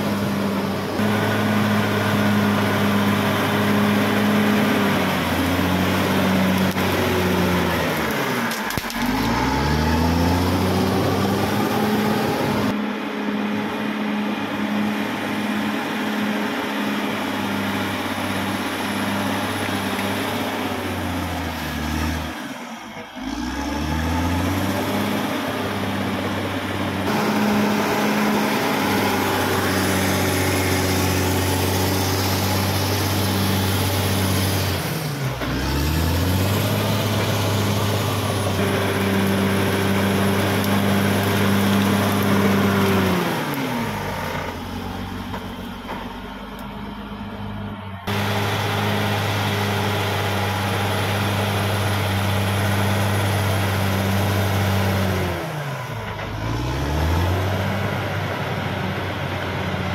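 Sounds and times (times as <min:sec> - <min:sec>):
bulldozer diesel engine running hard: 0:00.0 - 0:59.9.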